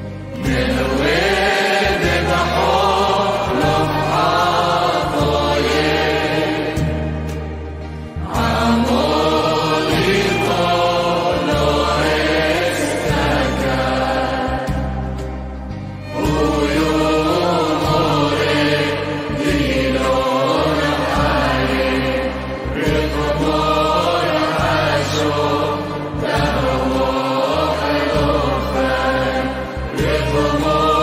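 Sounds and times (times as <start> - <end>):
low sustained bass notes: 0.0 - 31.0
voices singing choral chant: 0.0 - 31.0.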